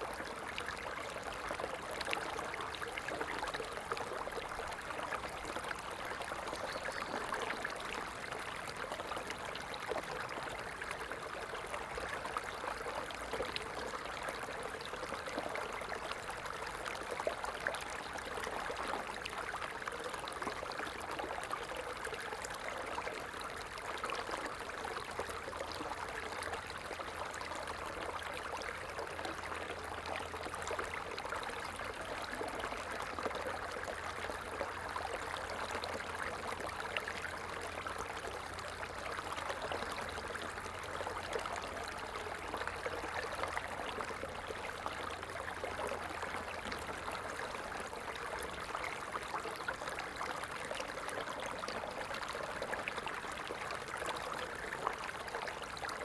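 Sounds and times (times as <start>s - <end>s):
stream water flowing and splashing: 0.0s - 56.0s.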